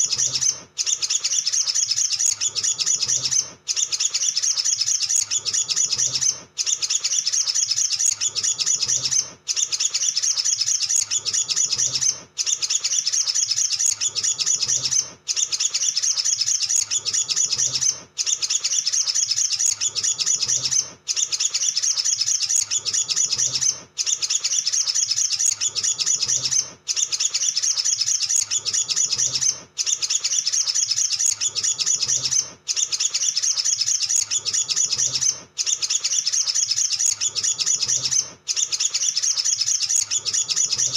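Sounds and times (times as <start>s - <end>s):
sunbird twittering: 0.0s - 40.9s.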